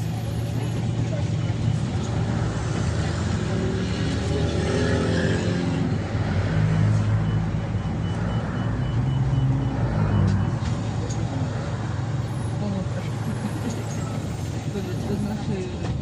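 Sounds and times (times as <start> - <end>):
bus engine running: 0.0 - 16.0
road and tyre noise: 0.0 - 16.0.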